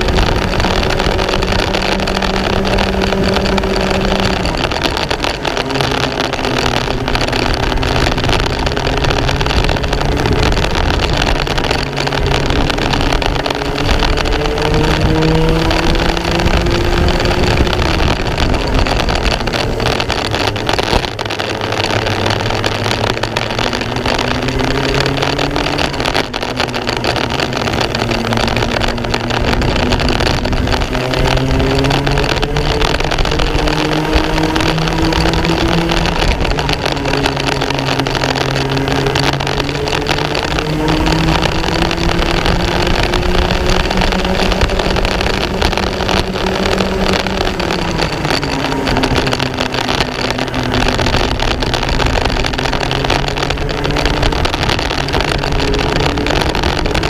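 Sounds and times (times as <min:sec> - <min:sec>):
kart engine revving: 0:00.0 - 0:57.0
steady rushing noise: 0:00.0 - 0:57.0.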